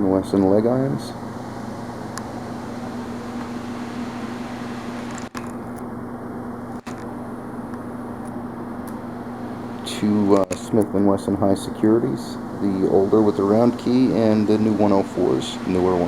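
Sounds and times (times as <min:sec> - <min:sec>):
room noise hum and hiss: 0:00.0 - 0:16.0.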